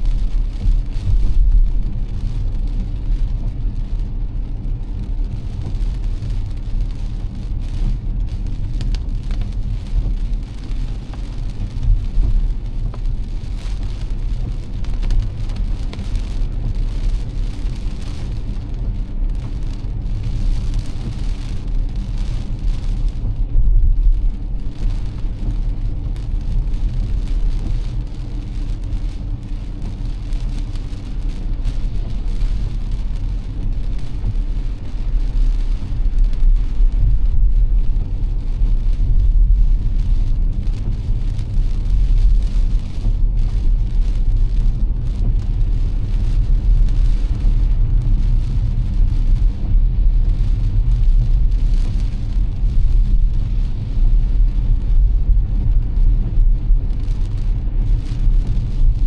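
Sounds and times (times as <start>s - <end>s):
rain and wet tyres hissing: 0.0s - 59.0s
road and engine rumble: 0.0s - 59.0s.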